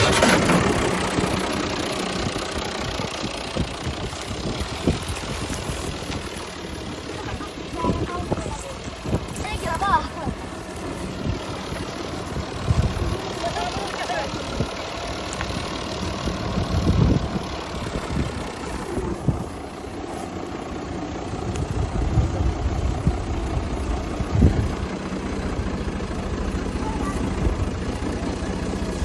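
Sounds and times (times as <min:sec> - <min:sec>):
combine harvester engine running: 0:00.0 - 0:29.0.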